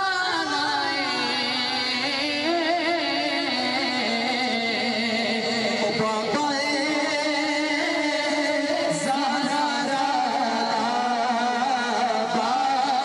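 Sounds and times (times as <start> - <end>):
men singing through pa system: 0.0 - 13.0.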